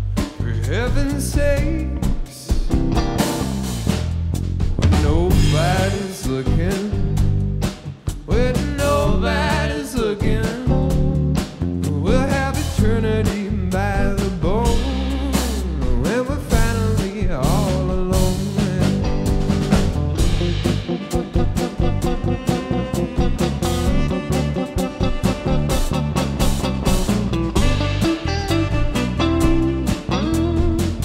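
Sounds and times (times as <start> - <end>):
funk band playing live: 0.0 - 31.0.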